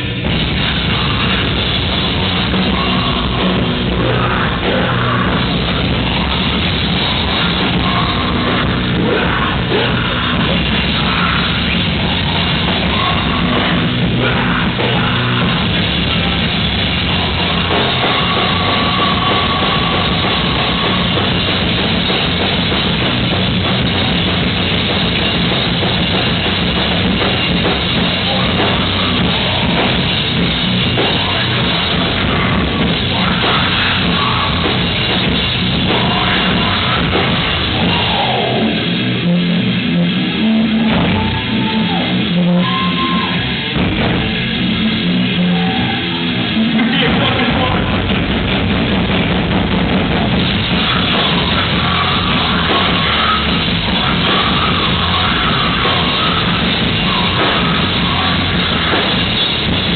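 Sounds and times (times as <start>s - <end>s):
drum kit: 0.0s - 59.9s
electric guitar: 0.0s - 59.9s
live rock band: 0.0s - 59.9s.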